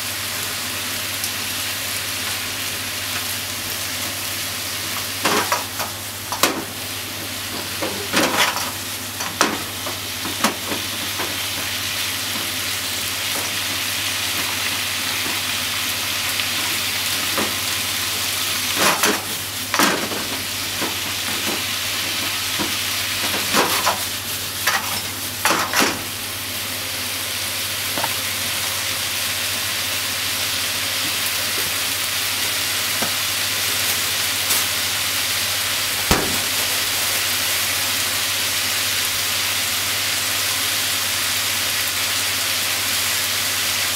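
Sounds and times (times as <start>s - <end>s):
food sizzling in a frying pan: 0.0s - 43.9s.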